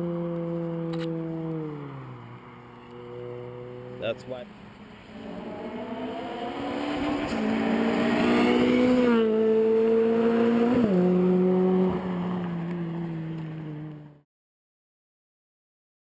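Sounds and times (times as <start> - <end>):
car engine accelerating: 0.0 - 14.2.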